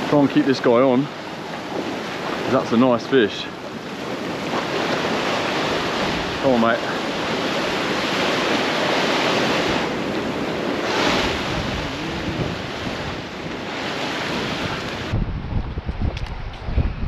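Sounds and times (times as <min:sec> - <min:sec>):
ocean surf washing over sand: 0:00.0 - 0:15.3
wind buffeting microphone: 0:00.0 - 0:17.0.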